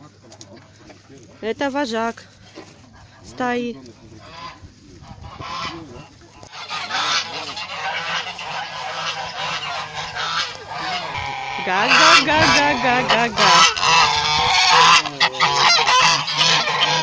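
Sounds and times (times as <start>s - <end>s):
geese honking: 1.5s - 17.0s.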